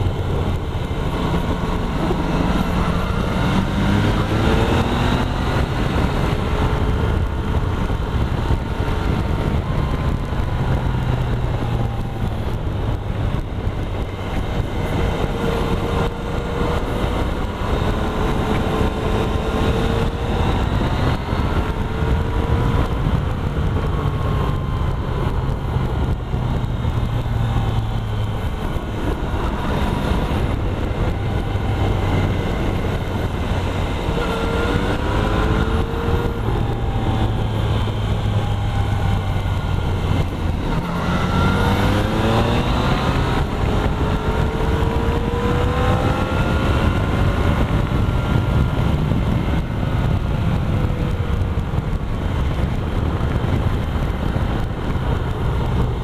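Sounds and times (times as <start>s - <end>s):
motorcycle engine accelerating: 0.0s - 56.0s
wind rushing: 0.0s - 56.0s.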